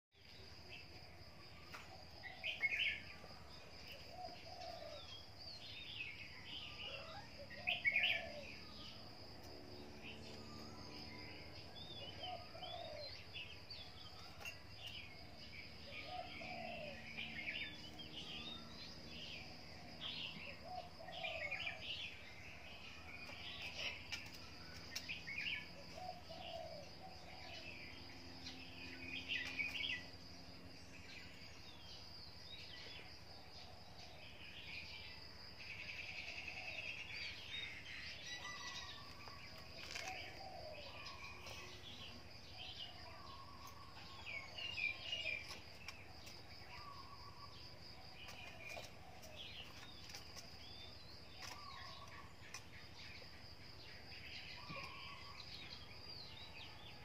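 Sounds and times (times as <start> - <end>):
birds chirping: 0.1 - 57.0.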